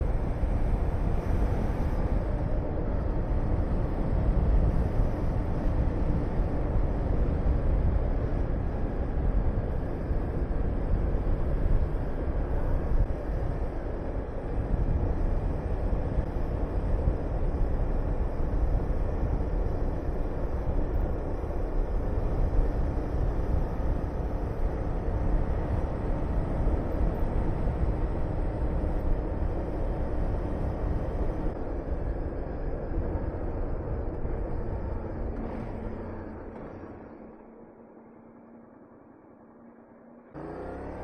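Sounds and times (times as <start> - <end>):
wind rush on microphone: 0.0 - 37.1.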